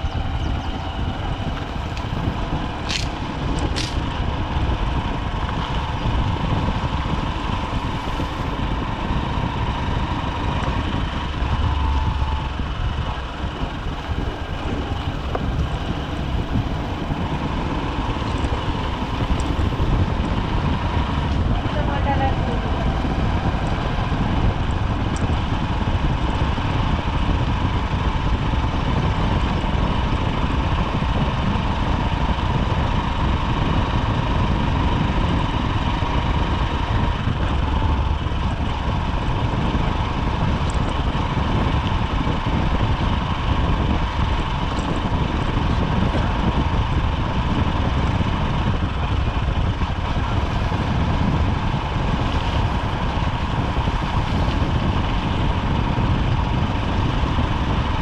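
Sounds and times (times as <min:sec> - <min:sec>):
motorcycle engine running: 0:00.0 - 0:58.0
street traffic: 0:00.0 - 0:58.0.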